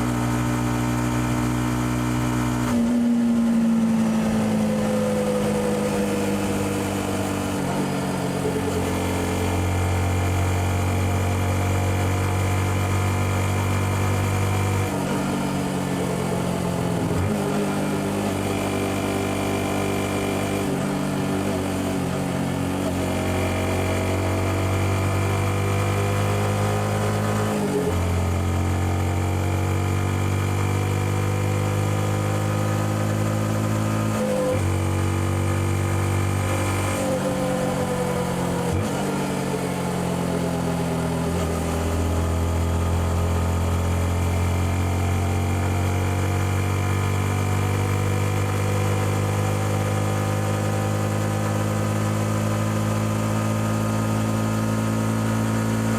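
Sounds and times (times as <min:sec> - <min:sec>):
motorcycle engine while riding: 0:00.0 - 0:55.9.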